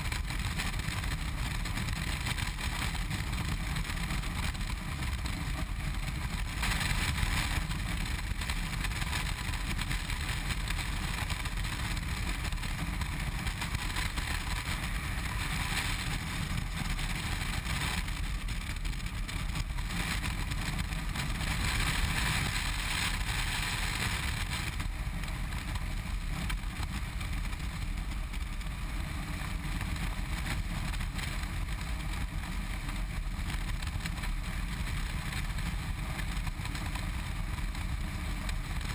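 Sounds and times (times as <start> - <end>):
motorcycle engine drone: 0.0 - 38.9
wind rushing over microphone: 0.0 - 38.9.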